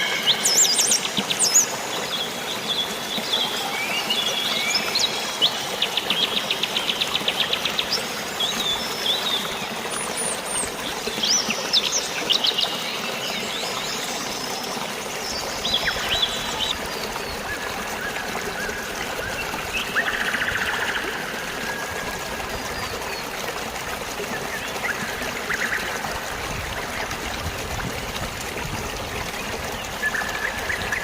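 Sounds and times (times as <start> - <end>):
flowing water: 0.0 - 31.0.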